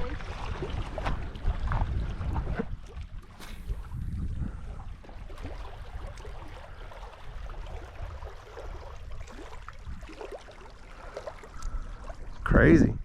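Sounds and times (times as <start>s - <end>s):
wind rumble on microphone: 0.0s - 10.2s, 11.6s - 13.0s.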